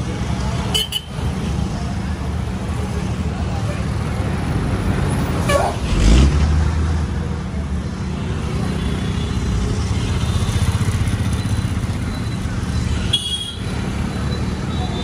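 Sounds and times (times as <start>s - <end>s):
motorcycles passing: 0.0s - 15.0s
road traffic engine rumble: 0.0s - 15.0s.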